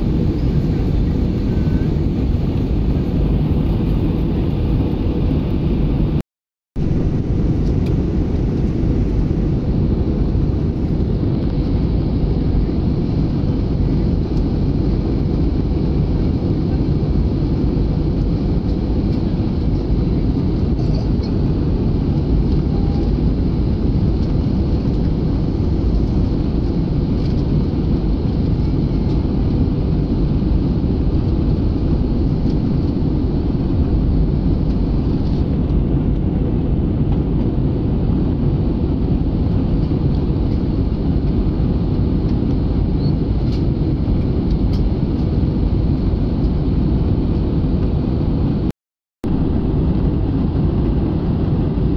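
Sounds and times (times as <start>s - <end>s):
airliner cabin engine rumble: 0.0s - 6.2s, 6.8s - 51.9s.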